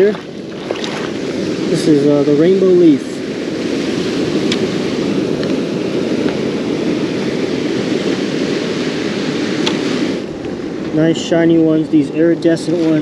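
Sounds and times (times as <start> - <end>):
ocean surf washing over rocks: 0.0 - 13.0.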